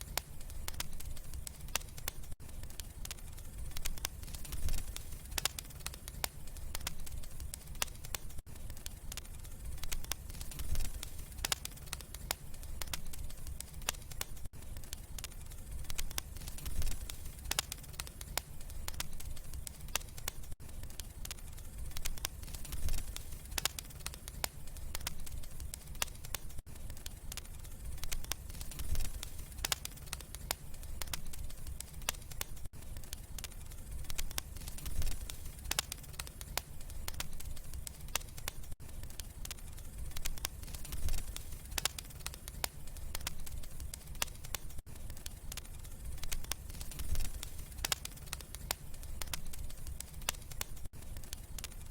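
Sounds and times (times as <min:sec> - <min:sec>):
low rumble of flames: 0:00.0 - 0:51.9
wood fire crackling: 0:00.0 - 0:51.9.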